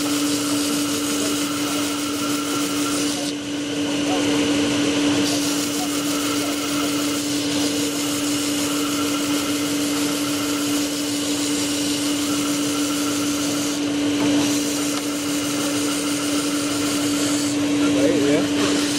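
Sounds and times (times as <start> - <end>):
wooden peg being sanded: 0.0 - 3.4, 5.2 - 13.8, 14.4 - 17.6, 18.6 - 18.9
disc sander running: 0.0 - 18.9.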